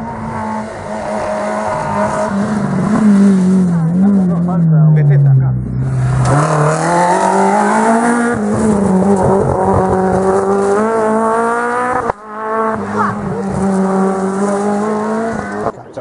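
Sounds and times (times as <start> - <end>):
car engine at high revs: 0.0 - 16.0
rally car engine accelerating: 0.0 - 16.0.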